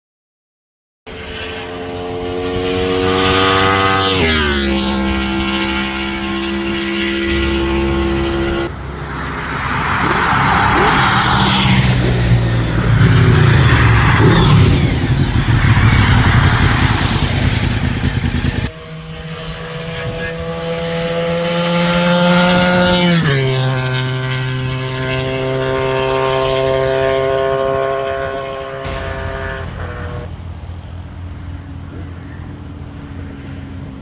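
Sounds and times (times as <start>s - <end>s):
motorbike engine high note passing: 1.1s - 34.0s
race motorbike revving past: 1.1s - 34.0s.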